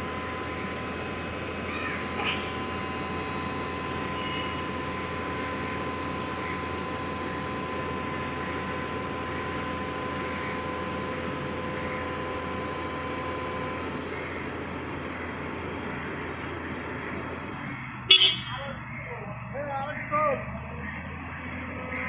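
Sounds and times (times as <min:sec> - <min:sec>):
drilling rig humming: 0:00.0 - 0:22.0
machine whine: 0:00.0 - 0:22.0.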